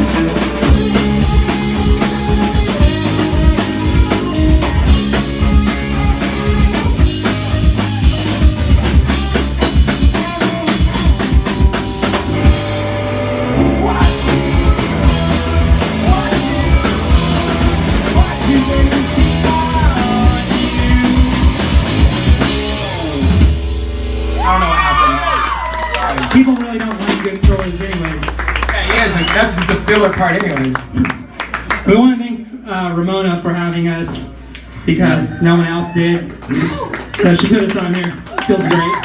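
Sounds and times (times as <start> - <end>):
live rock band playing: 0.0 - 31.9, 34.3 - 39.0.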